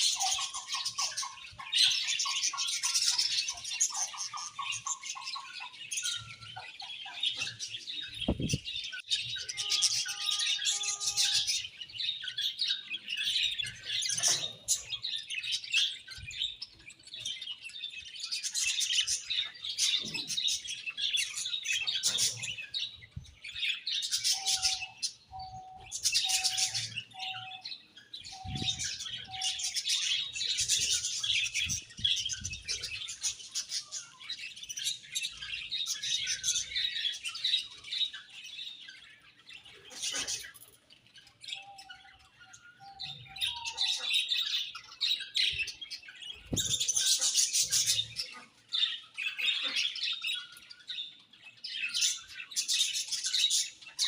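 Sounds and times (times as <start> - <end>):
budgerigars chirping and warbling: 0.0 - 54.0.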